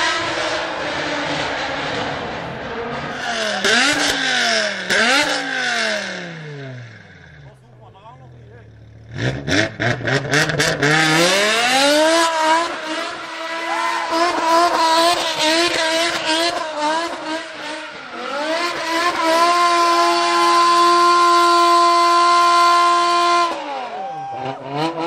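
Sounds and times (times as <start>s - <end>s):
car engine revving hard: 0.0s - 7.4s, 8.8s - 25.0s.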